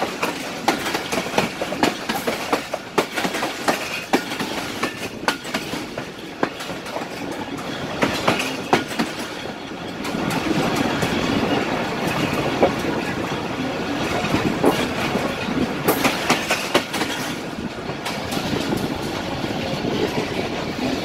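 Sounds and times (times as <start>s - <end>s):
train running gear rumble: 0.0s - 21.0s
train wheels clattering: 0.0s - 21.0s.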